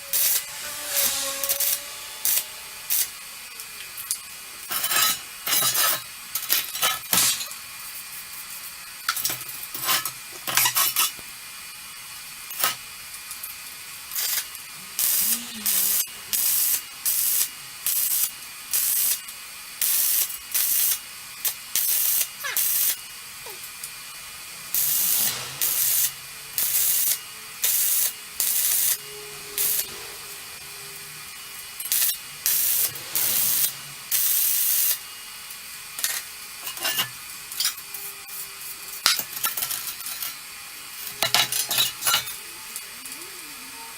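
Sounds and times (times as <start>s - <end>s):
welding arc sizzling and crackling: 0.0s - 43.9s.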